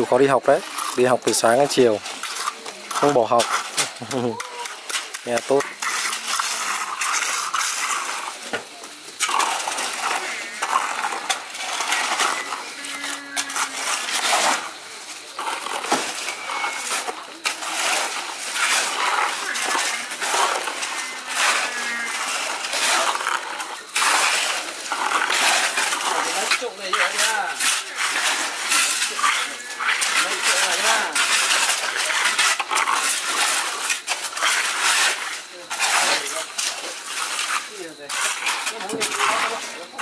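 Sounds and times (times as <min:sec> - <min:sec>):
shovels scraping wet concrete: 0:00.0 - 0:40.0.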